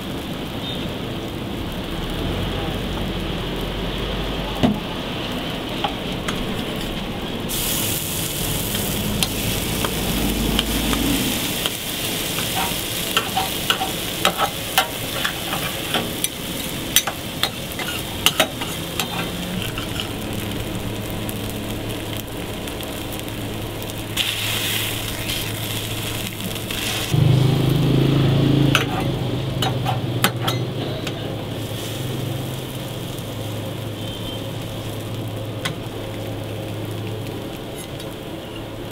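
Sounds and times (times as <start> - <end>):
patties sizzling on a griddle: 0.0 - 38.9.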